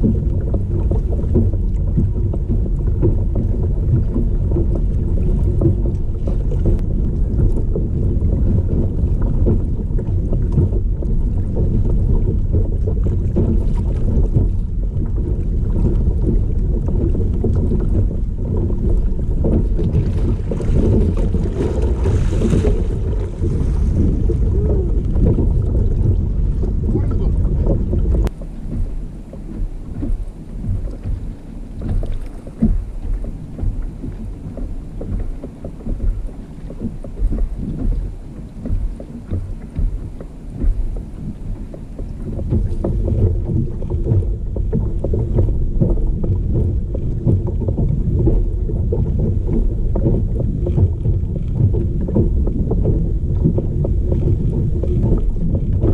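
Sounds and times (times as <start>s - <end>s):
water lapping against kayak hull: 0.0s - 55.9s
wind buffeting microphone: 0.0s - 55.9s.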